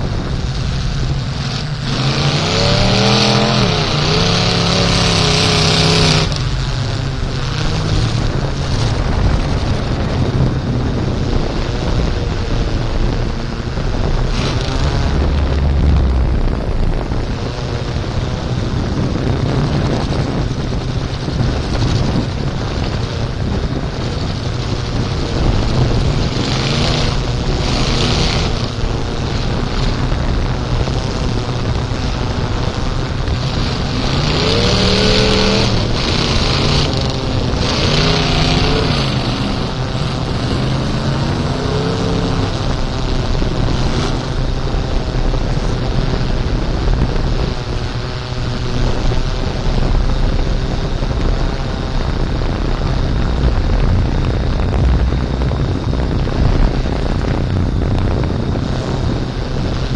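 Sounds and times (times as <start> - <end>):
truck engine revving: 0.0 - 59.9
wind noise on microphone: 0.0 - 59.9.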